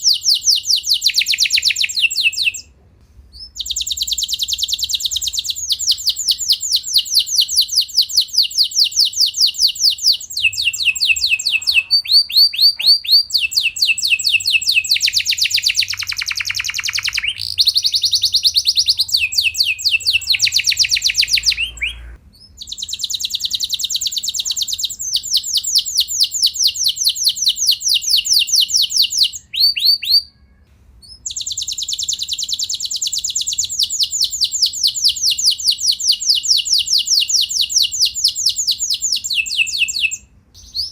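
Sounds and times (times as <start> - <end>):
canary singing trills: 0.0 - 2.7, 3.3 - 40.9.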